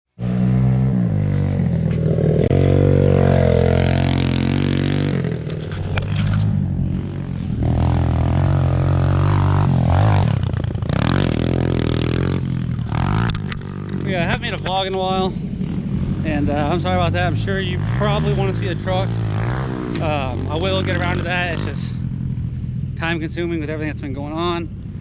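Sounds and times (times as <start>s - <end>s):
vehicle engine revving: 0.1s - 25.0s.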